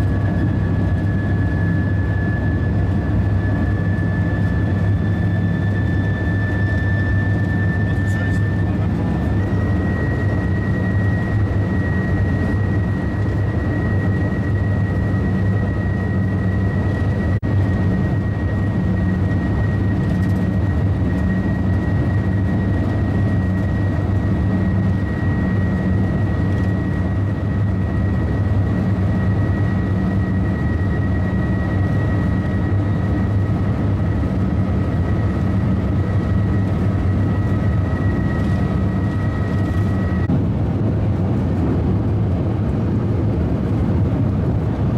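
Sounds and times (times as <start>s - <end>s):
high-speed train rumble: 0.0s - 44.9s.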